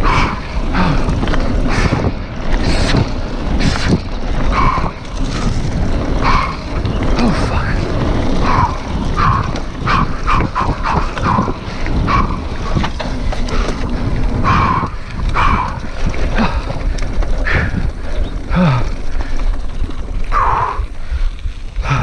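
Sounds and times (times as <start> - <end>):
bike rumbling and rattling: 0.0 - 22.0
wind on microphone: 0.0 - 22.0.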